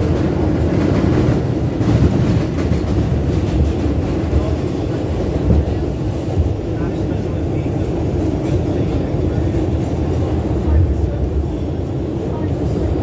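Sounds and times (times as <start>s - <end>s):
subway wheels rumbling on rails: 0.0s - 13.0s
train clacks: 0.0s - 13.0s.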